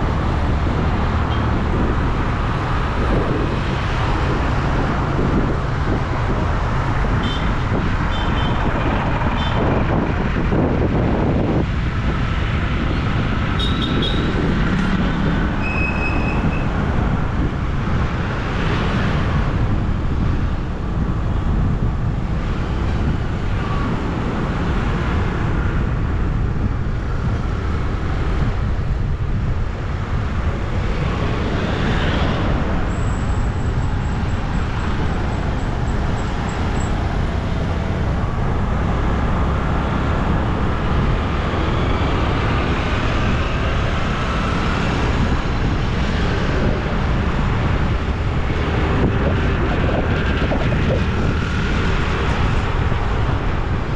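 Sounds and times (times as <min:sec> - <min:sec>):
road and wind rumble: 0:00.0 - 0:53.9.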